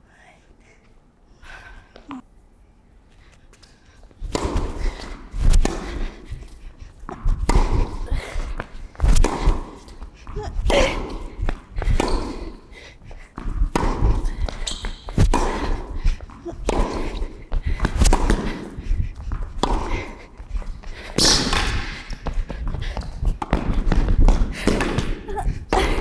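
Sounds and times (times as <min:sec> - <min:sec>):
tennis racket hitting ball: 0:04.2 - 0:12.7, 0:13.3 - 0:26.0.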